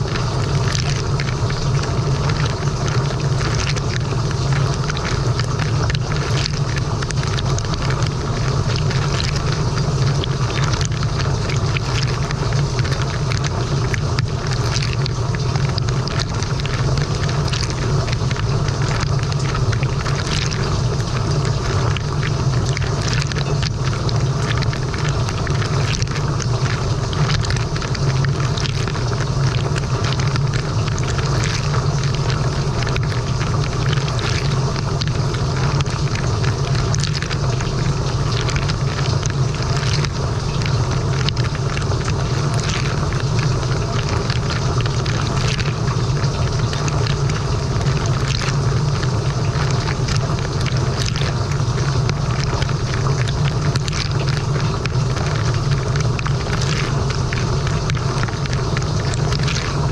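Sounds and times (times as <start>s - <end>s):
dishwasher pump humming: 0.0s - 59.9s
water splashing against dishes: 0.0s - 59.9s.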